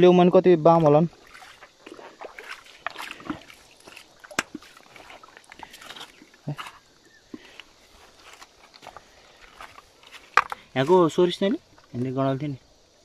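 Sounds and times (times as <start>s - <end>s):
stream water sloshing: 0.5s - 12.8s.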